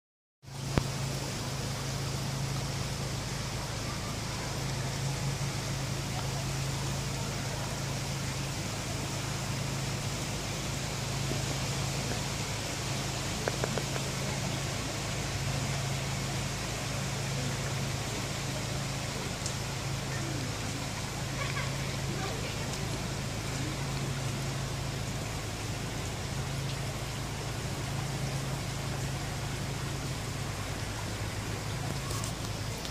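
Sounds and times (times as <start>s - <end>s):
floodwater rushing: 0.4s - 32.9s.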